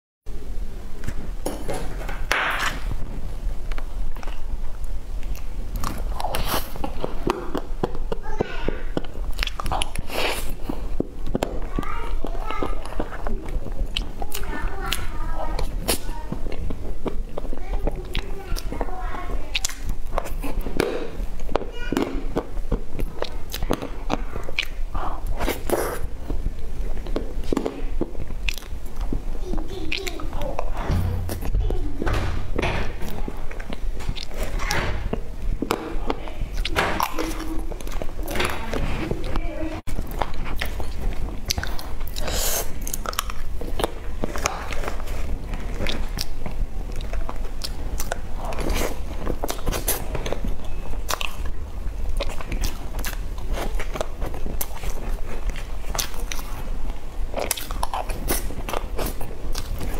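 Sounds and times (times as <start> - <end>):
wet chewing sounds: 1.0 - 32.0, 33.0 - 59.9.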